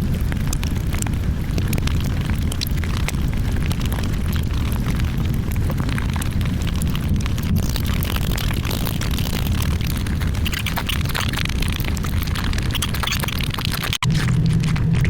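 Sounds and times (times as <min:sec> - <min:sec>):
chewing and crunching: 0:00.0 - 0:15.0
low rumble: 0:00.0 - 0:15.0.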